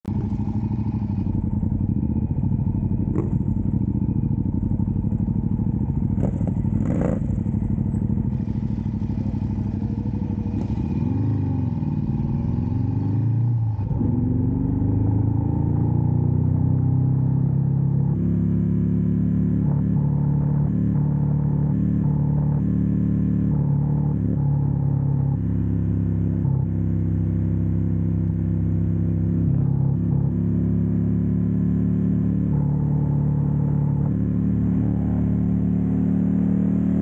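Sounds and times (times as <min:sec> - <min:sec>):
motorcycle engine at low revs: 0:00.0 - 0:37.0.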